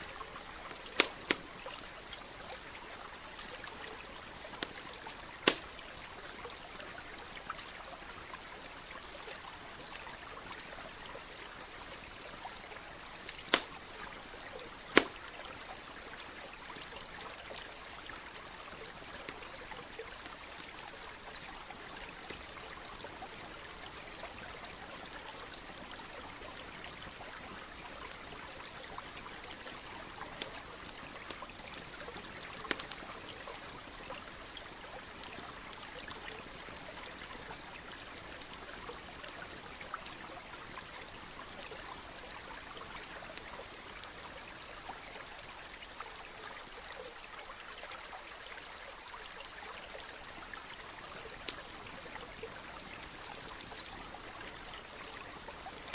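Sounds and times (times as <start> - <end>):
campfire crackling and popping: 0.0 - 47.4, 49.8 - 55.9
stream rushing and trickling: 0.0 - 55.9.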